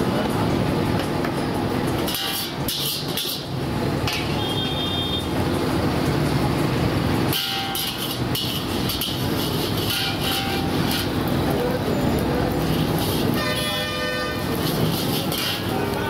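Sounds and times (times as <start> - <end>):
engine rumble: 0.0 - 16.0.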